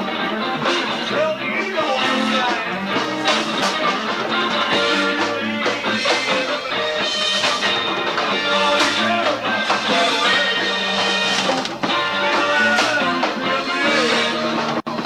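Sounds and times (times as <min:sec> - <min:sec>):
bass guitar: 0:00.0 - 0:15.0
drum kit: 0:00.0 - 0:15.0
guitar: 0:00.0 - 0:15.0.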